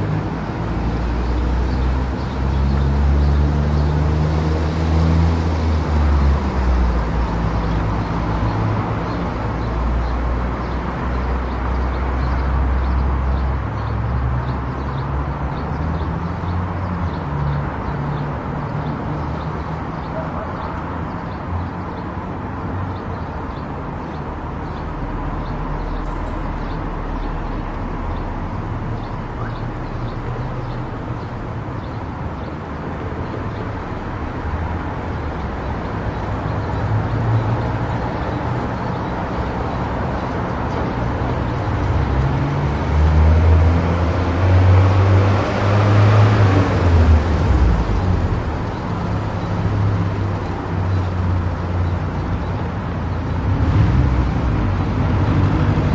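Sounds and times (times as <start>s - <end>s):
car driving on highway: 0.0s - 55.9s.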